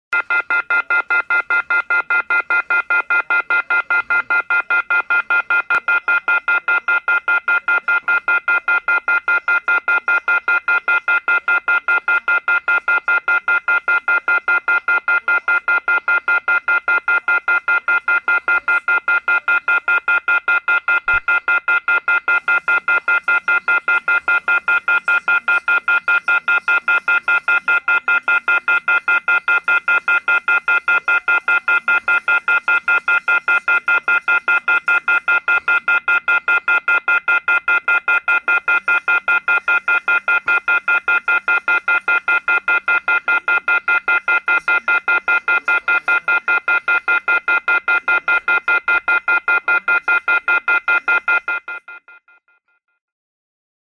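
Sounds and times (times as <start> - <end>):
telephone off-hook warning tone: 0.2 - 52.8.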